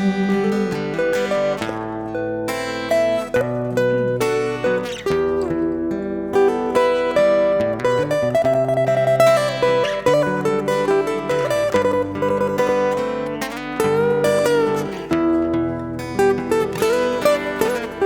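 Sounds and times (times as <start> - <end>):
acoustic plucked string melody: 0.0 - 18.0.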